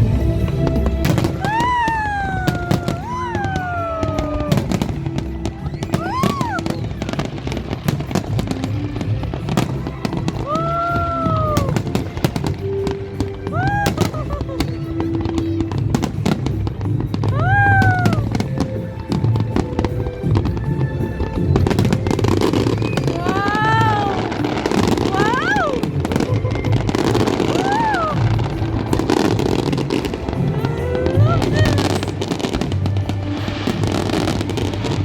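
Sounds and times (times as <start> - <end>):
fireworks bangs and crackles: 0.0 - 35.0
music: 0.0 - 35.0.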